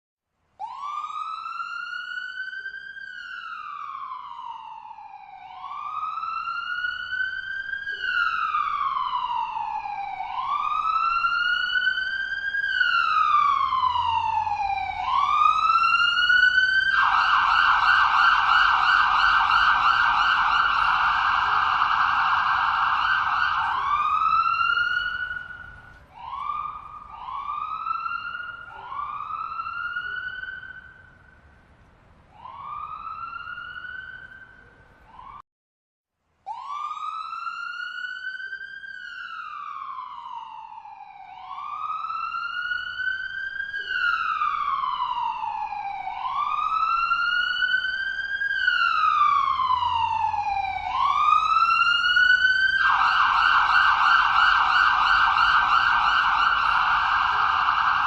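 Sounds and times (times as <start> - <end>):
ambulance siren: 0.6 - 35.4, 36.4 - 58.0.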